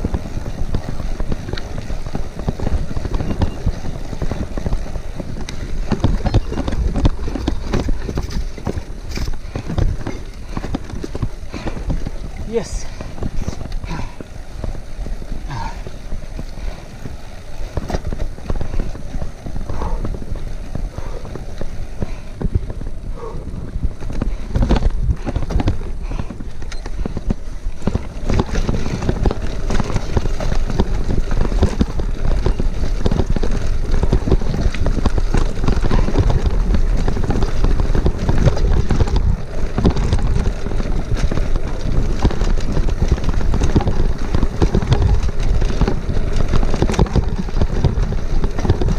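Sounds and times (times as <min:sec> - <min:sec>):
bicycle tyre rumble: 0:00.0 - 0:48.9
rattle of bike and bag: 0:00.0 - 0:48.9
wind buffeting microphone: 0:00.0 - 0:48.9.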